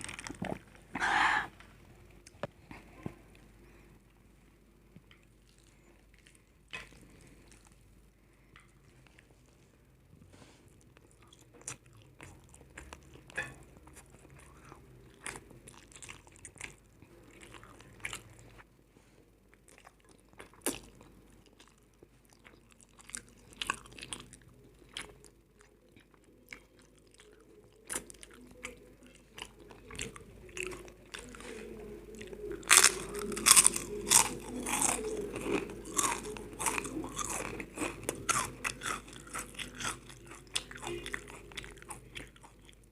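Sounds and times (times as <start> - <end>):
chewing crunchy food: 0.0 - 1.0, 5.0 - 9.7, 10.4 - 18.7, 19.5 - 42.9.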